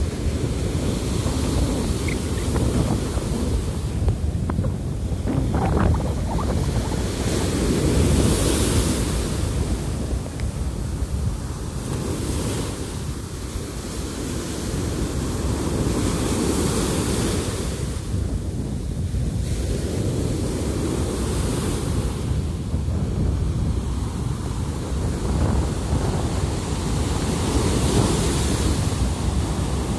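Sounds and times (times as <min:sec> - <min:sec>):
sea waves washing up a beach: 0:00.0 - 0:29.9
wind rumble on microphone: 0:00.0 - 0:29.9.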